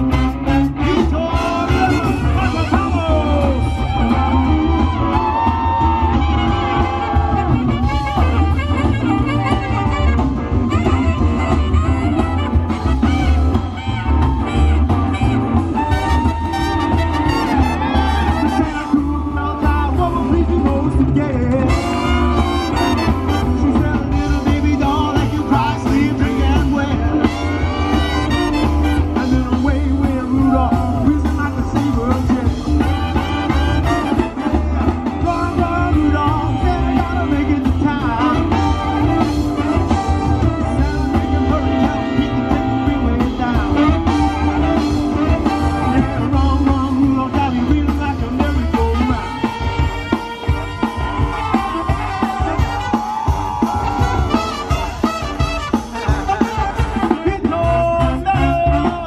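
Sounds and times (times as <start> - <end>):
drums: 0.0 - 59.0
electric guitar: 0.0 - 59.0
saxophones and trumpets: 0.0 - 59.0
swing band playing rock and roll: 0.0 - 59.0.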